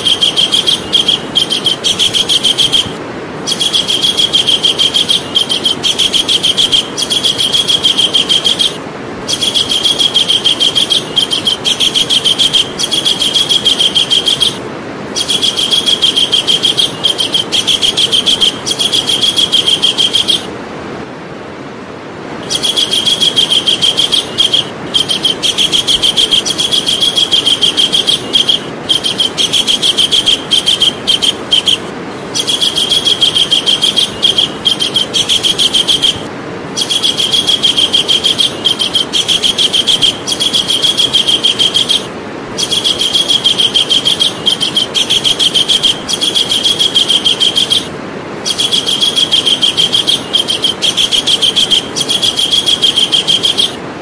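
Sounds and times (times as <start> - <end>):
kingfisher rattling call: 0.0 - 14.6, 15.2 - 20.5, 22.4 - 53.8
steady hiss: 0.0 - 54.0.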